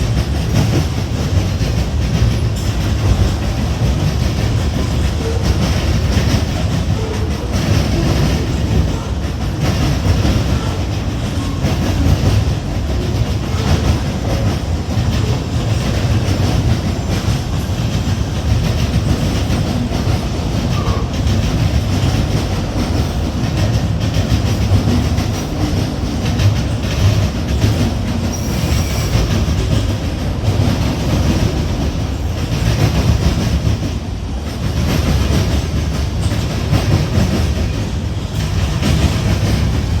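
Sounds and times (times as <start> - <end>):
freight train rumbling past: 0.0 - 40.0
wheels clicking over rail joints: 0.0 - 40.0.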